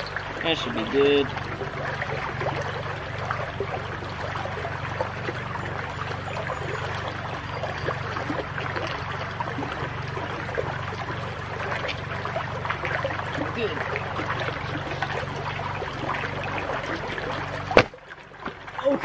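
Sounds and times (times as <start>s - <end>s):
creek water burbling over stones: 0.0s - 19.0s
low steady hum: 0.0s - 19.0s.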